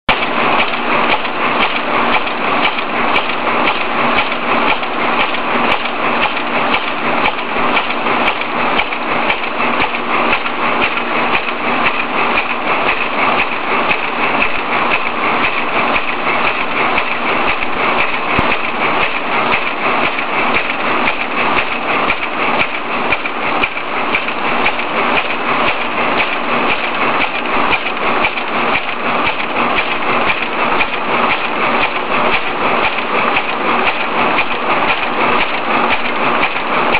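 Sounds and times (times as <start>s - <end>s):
bag-making machine clattering: 0.1s - 36.9s.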